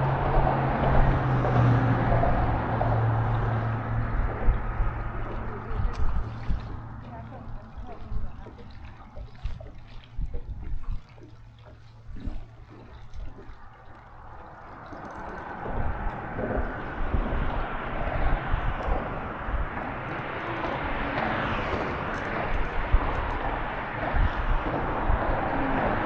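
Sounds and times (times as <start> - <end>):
wind noise: 0.0 - 11.3, 14.2 - 26.0
boat engine low hum: 0.0 - 26.0
rushing water: 0.0 - 26.0.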